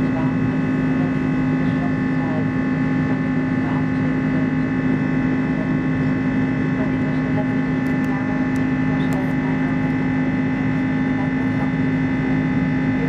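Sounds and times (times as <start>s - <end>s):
aircraft engine drone in cabin: 0.0s - 13.0s
high engine whine: 0.0s - 13.0s.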